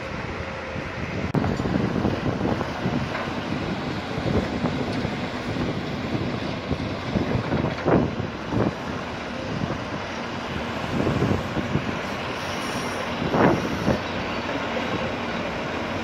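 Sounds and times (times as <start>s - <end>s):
excavator diesel engine: 0.0s - 16.0s
wind buffeting microphone: 0.0s - 16.0s.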